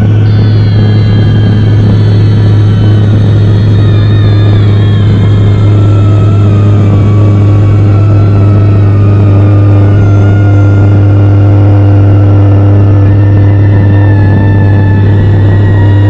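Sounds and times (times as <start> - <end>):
faint high drifting tones: 0.0 - 16.0
vehicle engine drone: 0.0 - 16.0.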